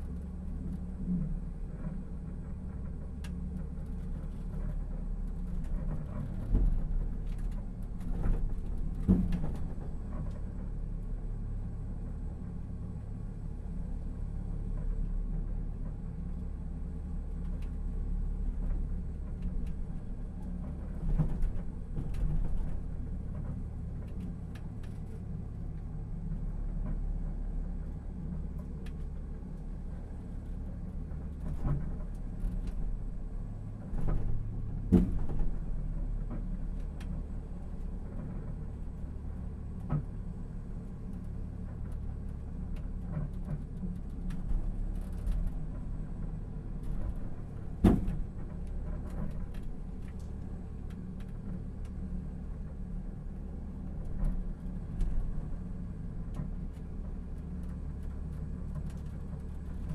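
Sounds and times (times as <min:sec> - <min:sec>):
rail pod rumble: 0:00.0 - 0:59.9.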